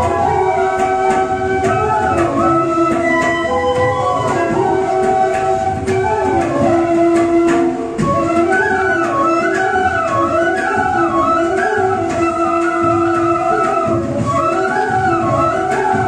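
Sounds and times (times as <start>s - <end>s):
flute melody: 0.0s - 16.0s
percussive hits: 0.0s - 16.0s.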